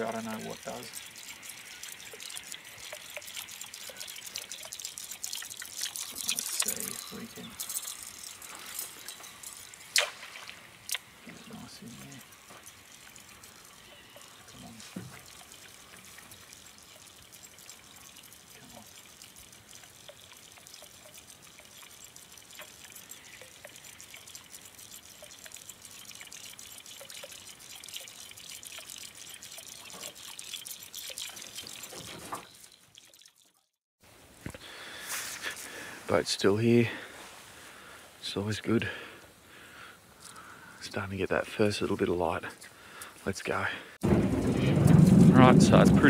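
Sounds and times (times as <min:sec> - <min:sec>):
water dripping and trickling: 0:00.0 - 0:33.8, 0:35.2 - 0:46.0.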